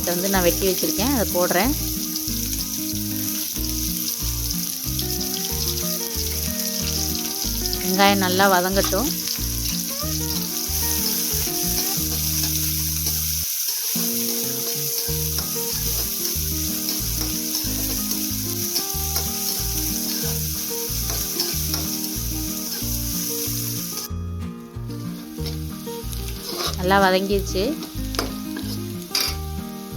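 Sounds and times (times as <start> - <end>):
shallots sizzling in hot oil: 0.0 - 29.9.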